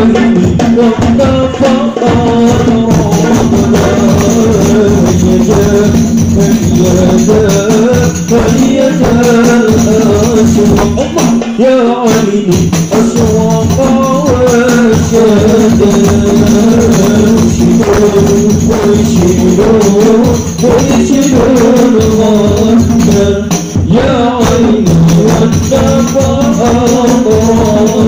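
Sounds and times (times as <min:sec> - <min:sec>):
fast hand drumming: 0:00.0 - 0:28.0
man singing: 0:00.0 - 0:28.0.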